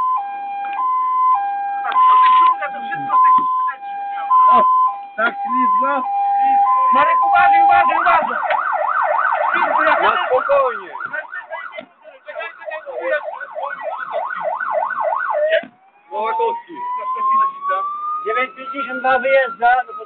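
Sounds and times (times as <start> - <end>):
fire engine siren: 0.0 - 20.0.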